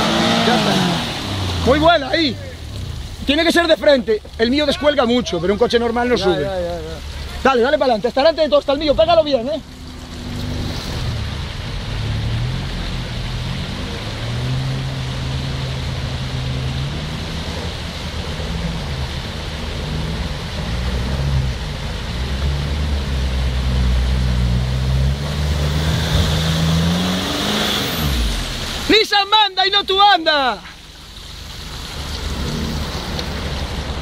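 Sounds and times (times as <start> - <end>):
car engine running: 0.0 - 34.0
water rushing and splashing: 0.0 - 34.0.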